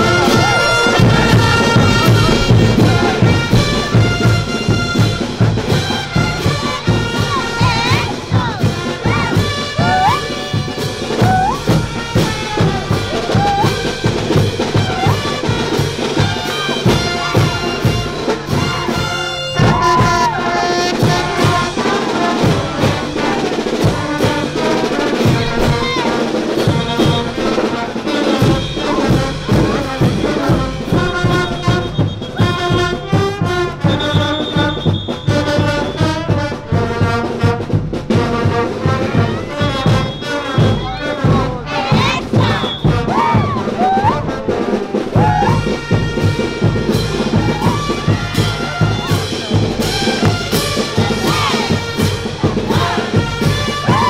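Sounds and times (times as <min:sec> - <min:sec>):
brass band playing dance music: 0:00.0 - 0:54.0.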